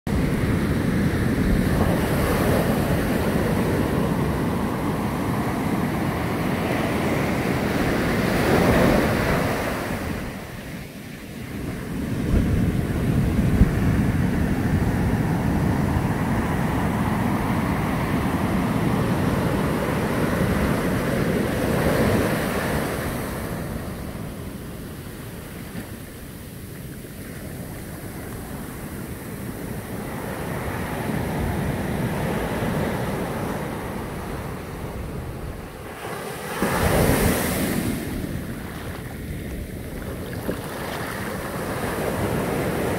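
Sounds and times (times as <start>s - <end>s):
wind rumble on microphone: 0.1s - 42.9s.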